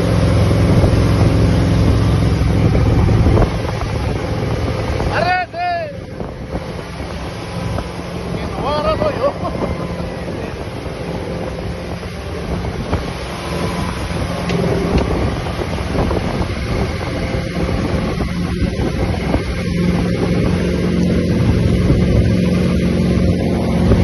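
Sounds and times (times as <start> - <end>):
boat engine hum: 0.0 - 24.0
wind buffeting microphone: 0.0 - 24.0.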